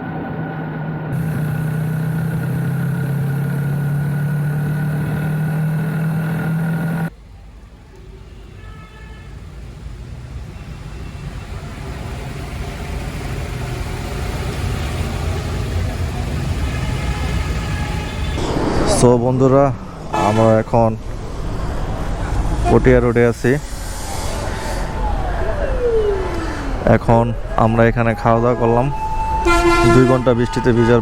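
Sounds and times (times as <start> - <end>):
vehicle engine humming: 0.0 - 18.4, 19.1 - 31.0
road traffic noise: 0.0 - 31.0.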